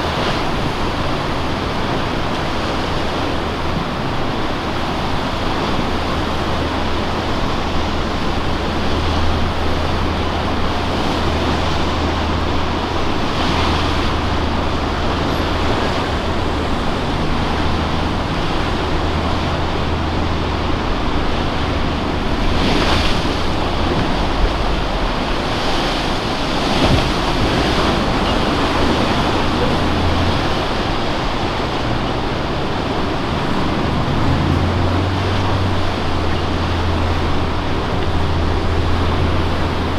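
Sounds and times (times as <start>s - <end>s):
ocean surf breaking: 0.0s - 39.9s
wind on microphone: 0.0s - 39.9s.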